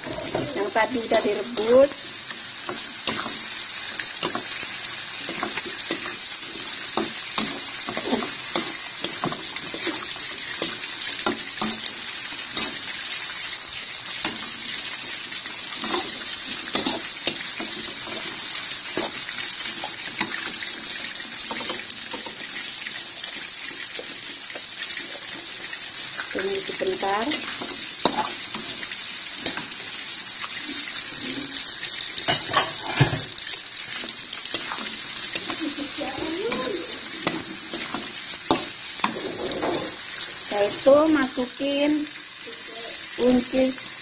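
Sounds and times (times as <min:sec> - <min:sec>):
food sizzling in a wok: 0:00.0 - 0:44.0.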